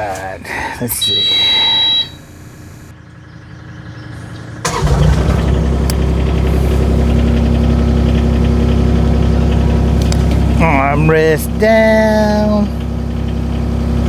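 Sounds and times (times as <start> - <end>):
digger engine starting and idling: 2.2 - 14.0.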